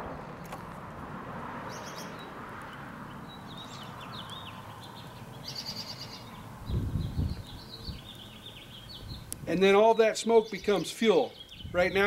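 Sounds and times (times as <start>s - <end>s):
outdoor background noise: 0.0s - 12.0s
small birds chirping: 1.7s - 12.0s.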